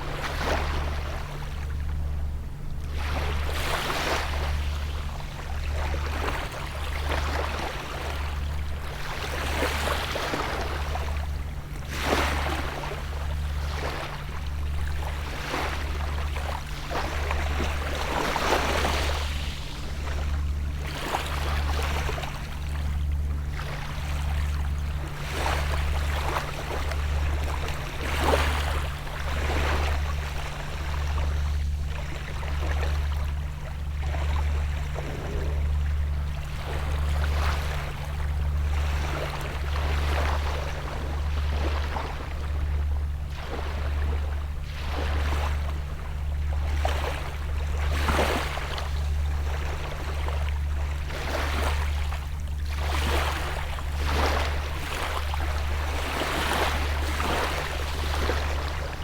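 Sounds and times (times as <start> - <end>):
distant boat engine hum: 0.0 - 59.0
small waves splashing on shore: 2.9 - 59.0.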